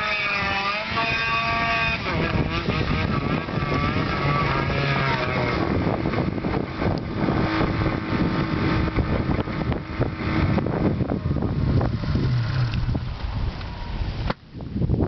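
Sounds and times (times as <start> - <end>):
snowmobile engine running: 0.0 - 14.3.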